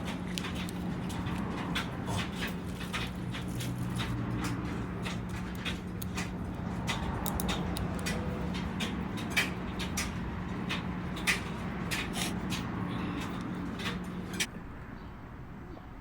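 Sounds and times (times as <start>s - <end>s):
oil filter parts clicking and tapping: 0.0s - 14.5s.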